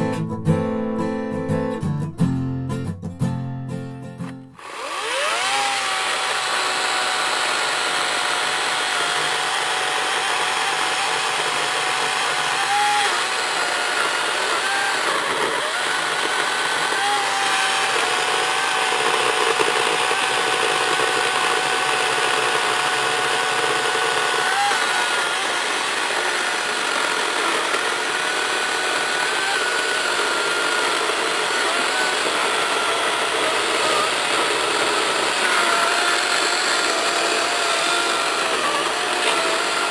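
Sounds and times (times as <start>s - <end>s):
chainsaw cutting log: 4.2s - 39.9s.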